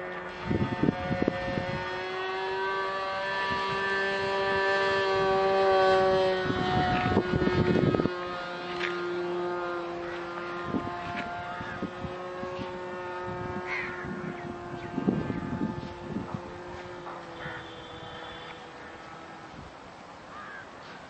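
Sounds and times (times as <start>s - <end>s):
wind buffeting microphone: 0.0s - 19.8s
drone propeller hum: 0.0s - 21.0s.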